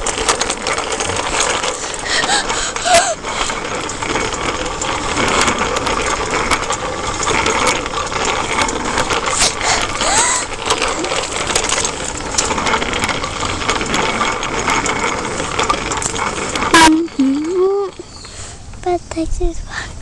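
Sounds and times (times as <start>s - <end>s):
bicycle freewheel ticking: 0.0s - 19.9s.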